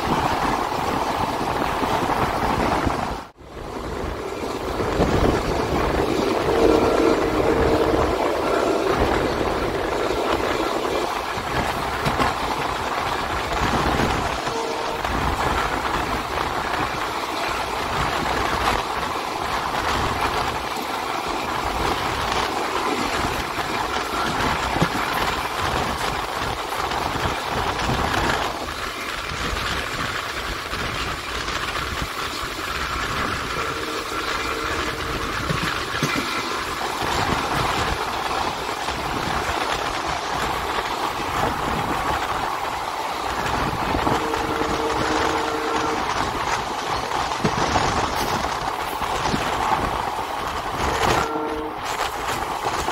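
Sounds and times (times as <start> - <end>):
train wheels rolling on rails: 0.0 - 52.9.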